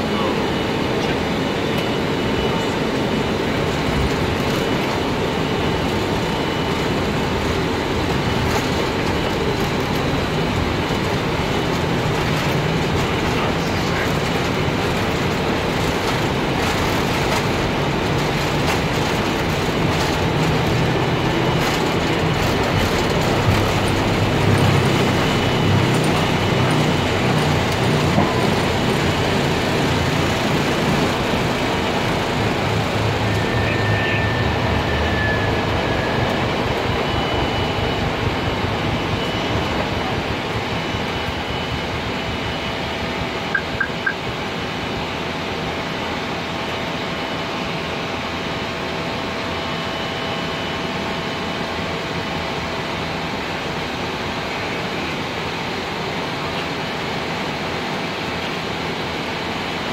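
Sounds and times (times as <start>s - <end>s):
jet engines roaring: 0.0s - 59.9s
wheels rumbling on runway: 0.0s - 59.9s.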